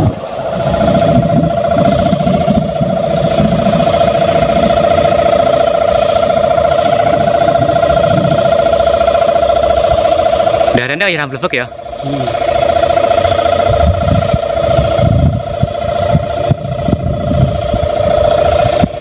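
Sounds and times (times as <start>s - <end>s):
kite hummer droning: 0.0s - 19.0s
wind rumble: 0.0s - 19.0s.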